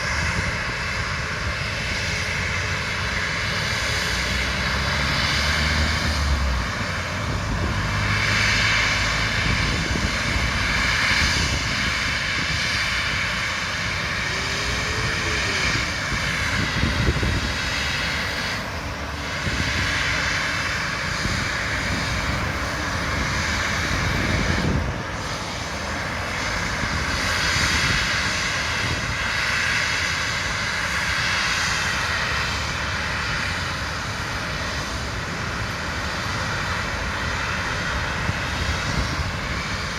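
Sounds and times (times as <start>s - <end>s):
airliner engines roaring: 0.0s - 39.9s.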